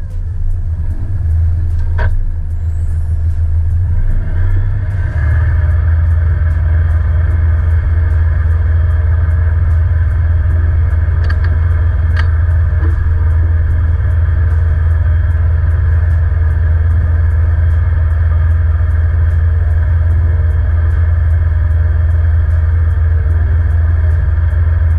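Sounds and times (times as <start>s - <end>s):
diesel engine rumbling: 0.0s - 24.9s.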